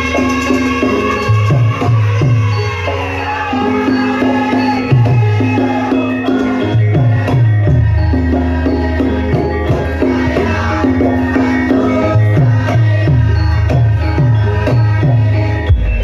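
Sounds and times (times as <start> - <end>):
gamelan ensemble sustained tones: 0.0 - 16.0
hand drum strokes bending in pitch: 0.0 - 16.0.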